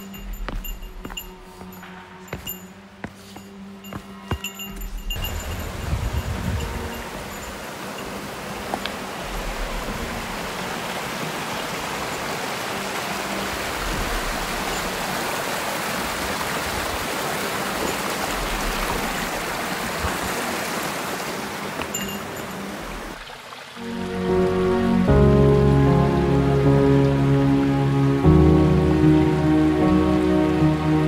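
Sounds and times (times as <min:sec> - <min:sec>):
stream rushing over stones: 0:03.9 - 0:30.6.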